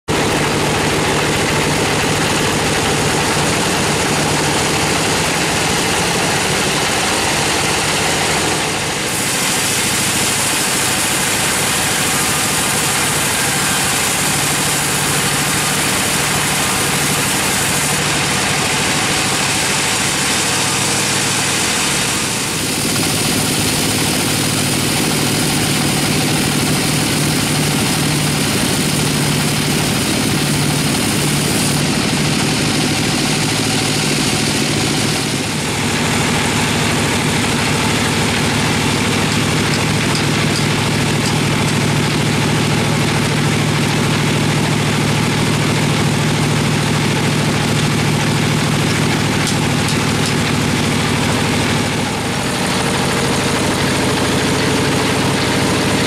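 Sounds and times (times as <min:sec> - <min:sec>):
band saw cutting log: 0:00.1 - 0:56.0
mill drive droning: 0:00.1 - 0:56.0.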